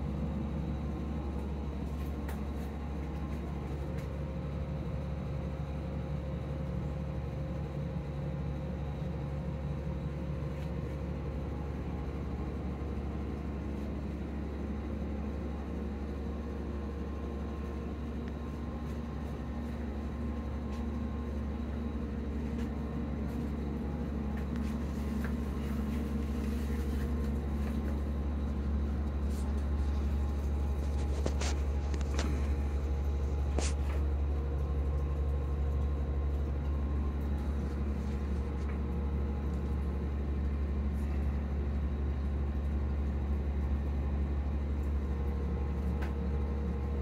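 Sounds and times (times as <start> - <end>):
low machine hum: 0.0 - 47.0.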